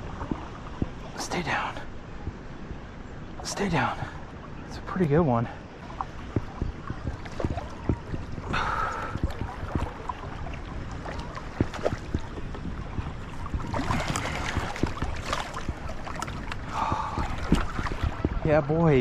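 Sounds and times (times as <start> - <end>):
water splashing around kayak: 0.0 - 19.0.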